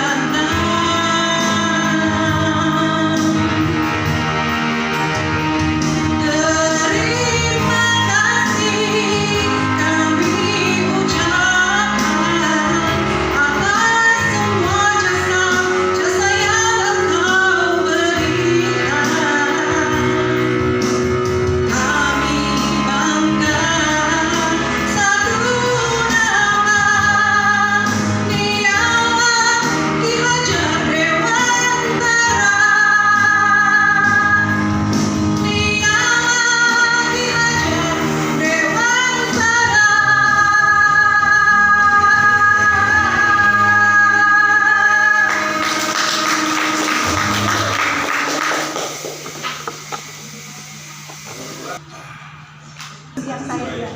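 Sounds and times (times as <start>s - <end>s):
woman singing: 0.0s - 3.8s, 6.0s - 21.0s, 21.6s - 48.0s
guitar accompaniment: 0.0s - 51.9s.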